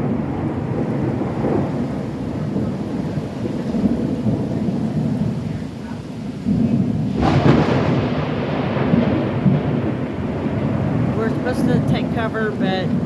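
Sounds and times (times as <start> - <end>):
rain: 0.0 - 13.0
rumble of thunder: 0.0 - 13.0
wind: 0.0 - 13.0.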